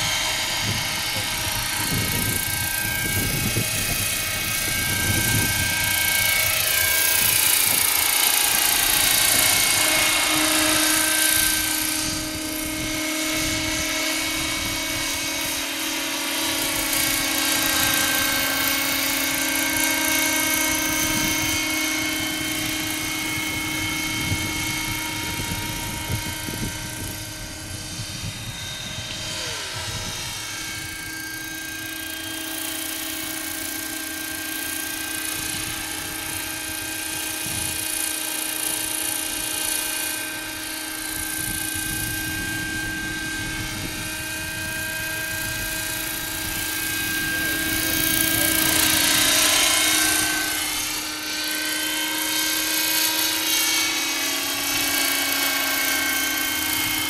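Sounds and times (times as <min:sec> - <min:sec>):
electric motor whine: 0:00.0 - 0:57.0
rotor blades whirring: 0:00.0 - 0:57.0.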